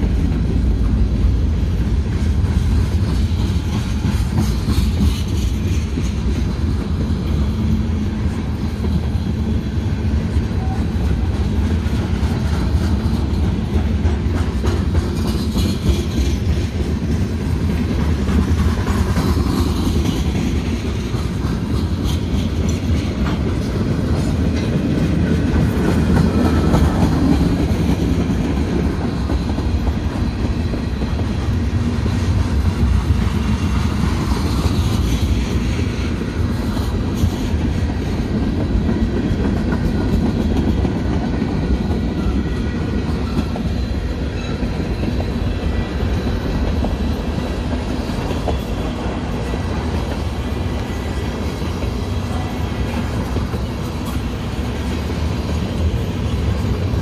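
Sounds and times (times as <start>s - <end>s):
freight train rumbling past: 0.0s - 57.0s
wheels clicking over rail joints: 0.0s - 57.0s.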